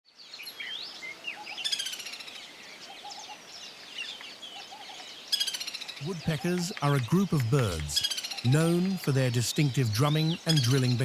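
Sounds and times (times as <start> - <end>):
birds chirping and whistling: 0.4 - 11.0.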